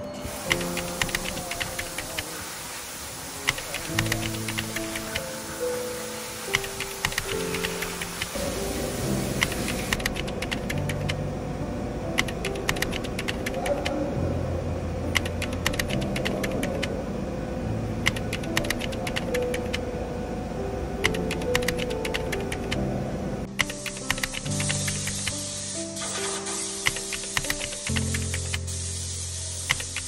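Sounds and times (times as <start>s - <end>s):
background music: 0.0s - 2.3s, 3.5s - 30.0s.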